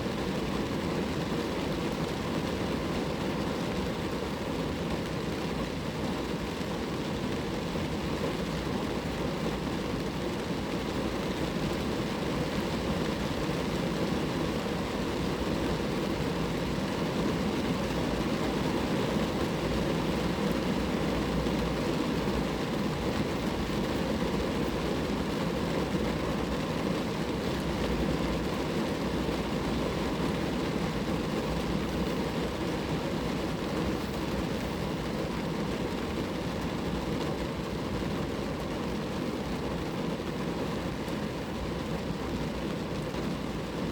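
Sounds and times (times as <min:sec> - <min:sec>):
rain falling on a car: 0:00.0 - 0:43.9.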